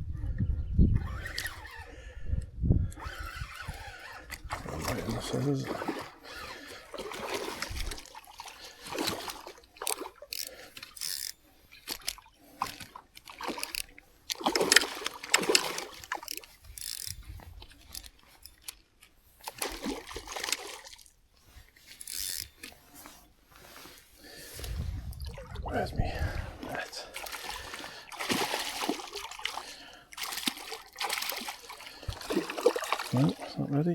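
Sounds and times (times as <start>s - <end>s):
water splashing and sloshing: 3.0s - 33.9s.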